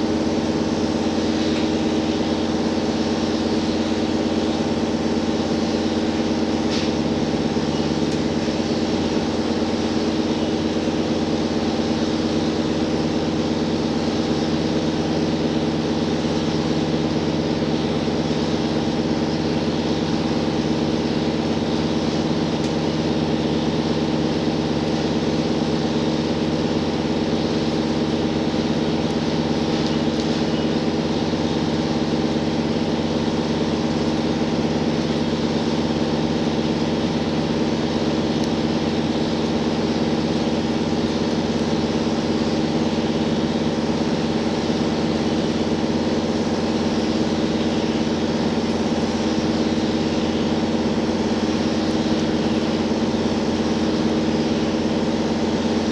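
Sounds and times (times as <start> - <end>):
railcar engine hum: 0.0 - 55.9.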